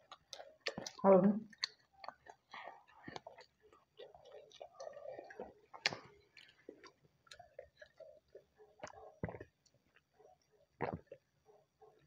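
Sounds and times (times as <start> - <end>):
person chewing: 0.0 - 11.3.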